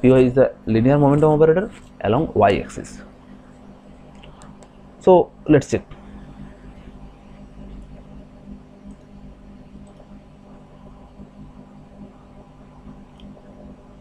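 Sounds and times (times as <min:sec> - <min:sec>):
steady low hum with hiss: 0:00.0 - 0:14.0.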